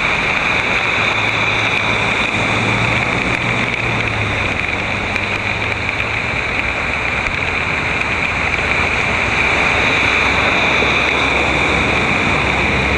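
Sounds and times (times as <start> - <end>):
car driving through water: 0.0 - 12.9
heavy rain on street: 0.0 - 12.9.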